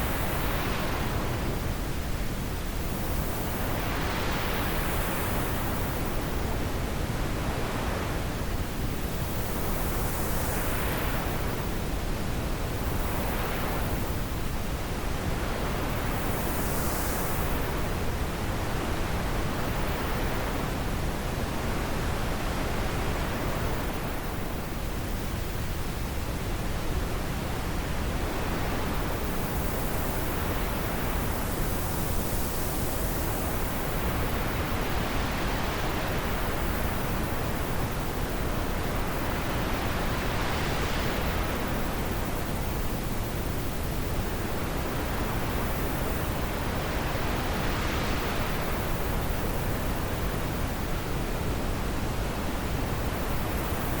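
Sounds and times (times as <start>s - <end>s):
wind blowing in gusts: 0.0s - 54.0s.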